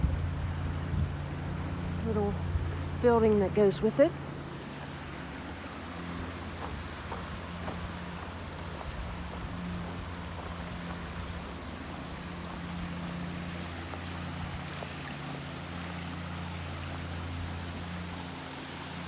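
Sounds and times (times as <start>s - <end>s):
low even hum: 0.0s - 19.0s
rushing outdoor noise: 0.0s - 19.0s.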